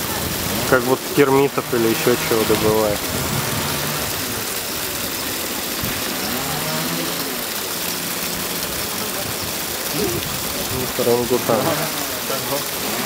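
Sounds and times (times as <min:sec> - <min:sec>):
rushing outdoor noise: 0:00.0 - 0:13.0.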